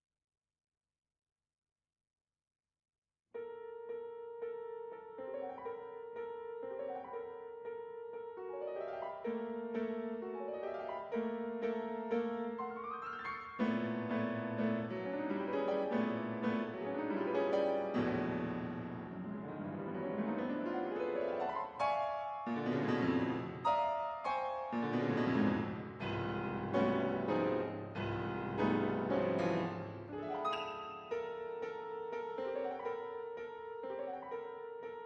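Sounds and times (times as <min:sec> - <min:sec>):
piano music: 0:03.4 - 0:35.0.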